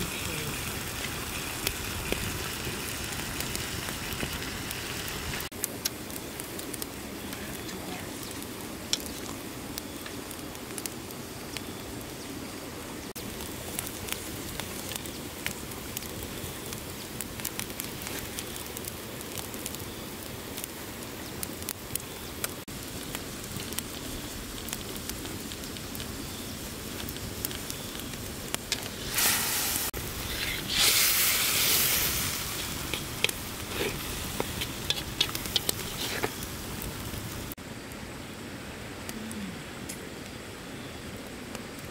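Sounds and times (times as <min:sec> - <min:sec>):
hot wok sizzling: 0:00.0 - 0:10.4, 0:13.1 - 0:37.6
campfire crackling and popping: 0:00.0 - 0:38.1
steady hiss: 0:00.0 - 0:41.9.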